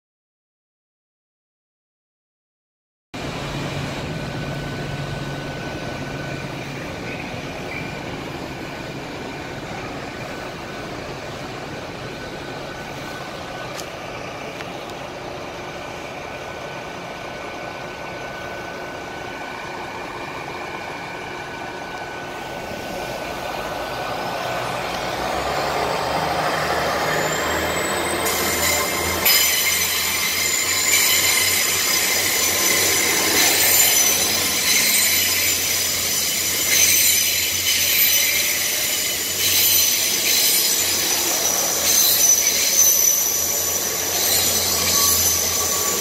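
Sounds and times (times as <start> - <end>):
rising engine whine: 3.2 - 46.0
train engines running: 3.2 - 46.0.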